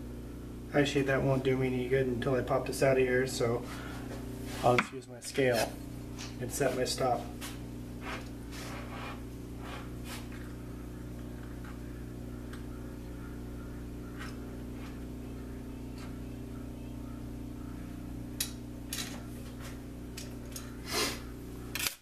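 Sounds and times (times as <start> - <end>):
lathe humming: 0.0 - 21.7.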